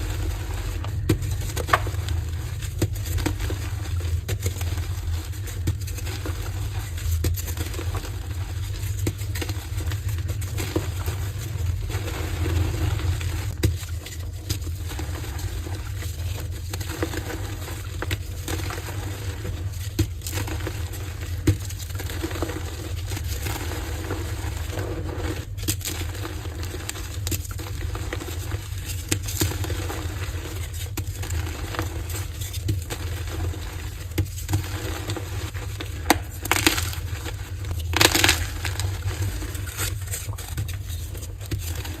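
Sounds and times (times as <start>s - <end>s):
chalk crunching and crackling: 0.0s - 42.0s.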